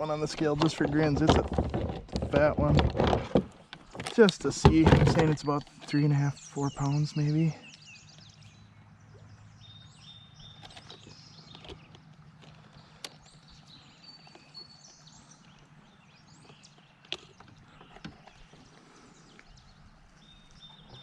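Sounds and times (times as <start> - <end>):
small birds chirping: 3.6 - 21.0.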